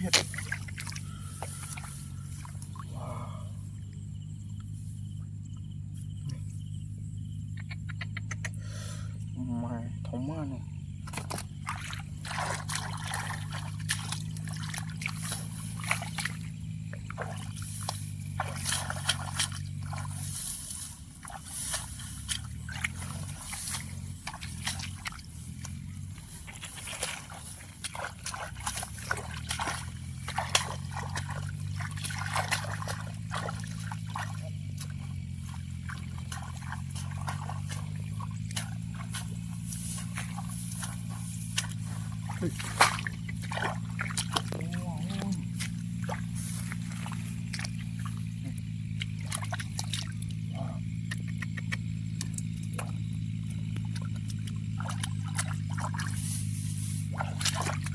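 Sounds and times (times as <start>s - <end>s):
splashing in muddy water: 0.0s - 8.9s, 10.1s - 57.9s
low engine hum: 0.0s - 57.9s.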